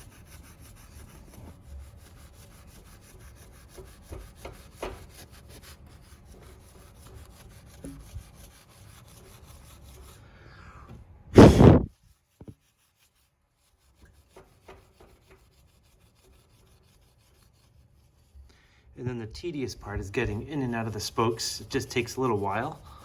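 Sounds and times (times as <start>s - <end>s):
steel wool scrubbing metal: 0.0s - 10.2s, 11.4s - 18.5s, 19.1s - 23.0s.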